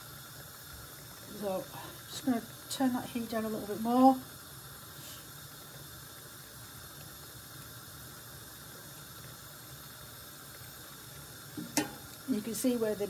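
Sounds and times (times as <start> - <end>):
faint simmering hiss: 0.0 - 13.0.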